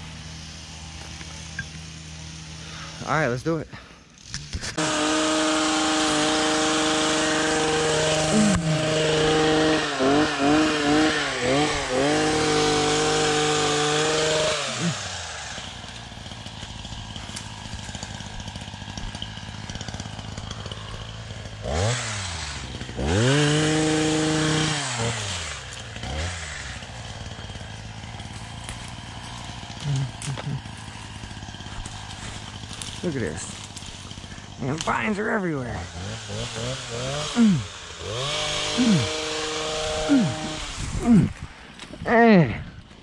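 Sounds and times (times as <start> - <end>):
pole saw engine revving: 0.0 - 42.5.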